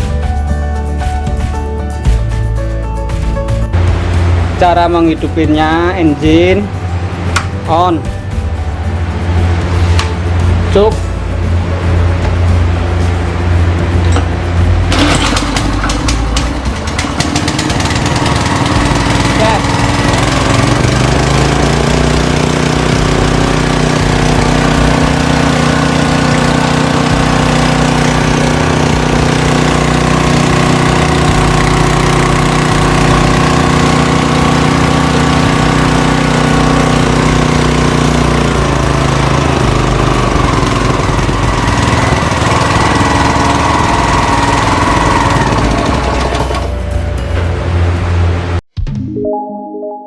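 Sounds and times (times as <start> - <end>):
petrol engine running: 2.8 - 48.6.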